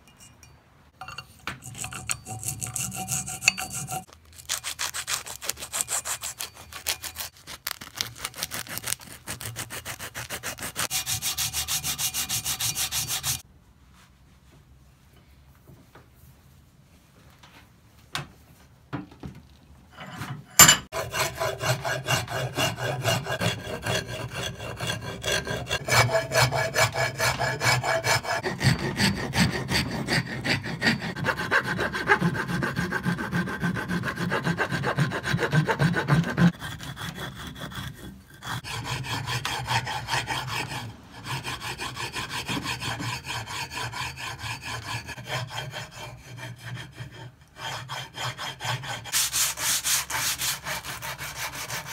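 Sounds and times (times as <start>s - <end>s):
file rasping wood: 1.0s - 7.4s, 8.1s - 13.4s, 20.0s - 51.9s.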